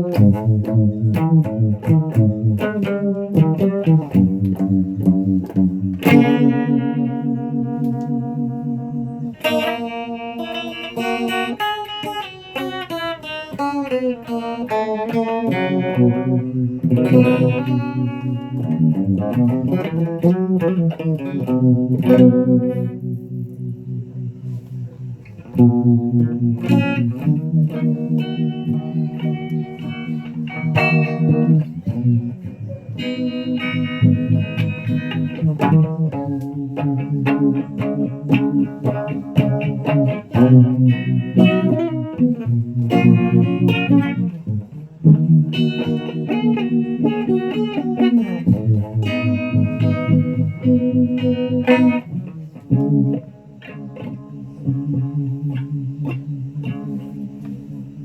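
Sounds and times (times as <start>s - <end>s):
electric guitar chords with effects: 0.0s - 58.0s.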